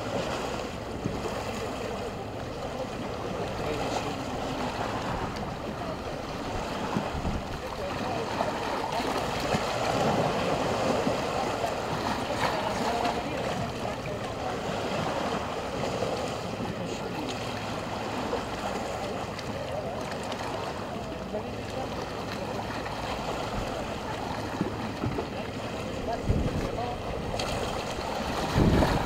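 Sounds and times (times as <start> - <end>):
waves lapping on stone shore: 0.0 - 29.0.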